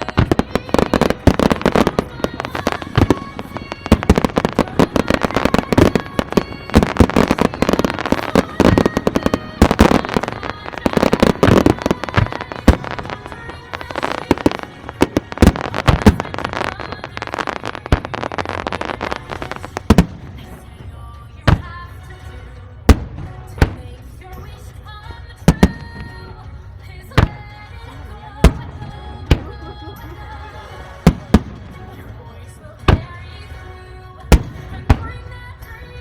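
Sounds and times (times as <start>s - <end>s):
fireworks bangs and crackles: 0.0s - 36.0s
music playing: 0.0s - 36.0s.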